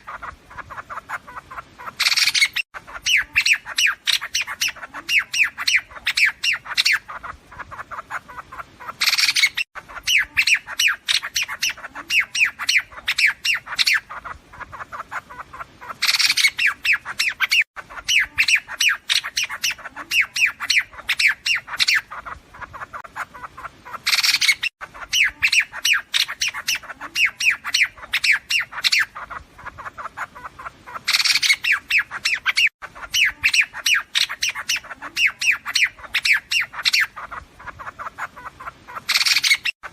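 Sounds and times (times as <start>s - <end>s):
recorded bird flock chattering: 0.0s - 39.9s.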